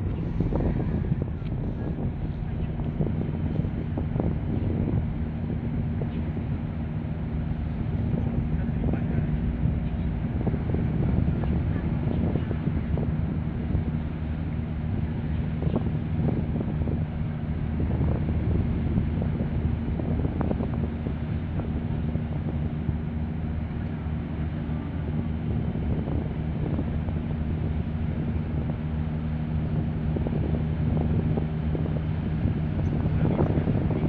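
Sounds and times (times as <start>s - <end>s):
ship engines droning: 0.0s - 34.0s
wind rumbling on microphone: 0.0s - 34.0s.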